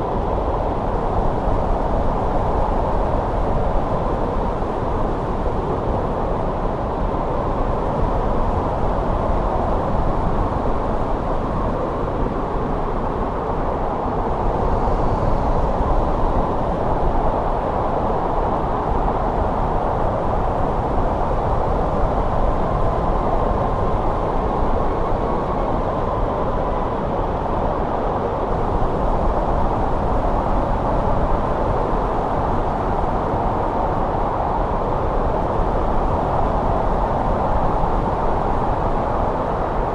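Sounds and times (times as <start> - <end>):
snowstorm wind blowing: 0.0 - 39.9.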